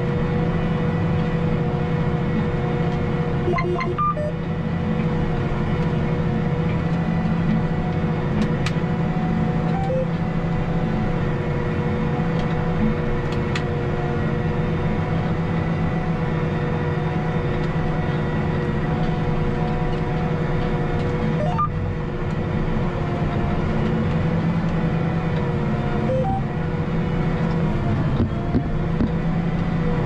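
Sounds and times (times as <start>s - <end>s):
tractor diesel engine drone: 0.0s - 30.0s.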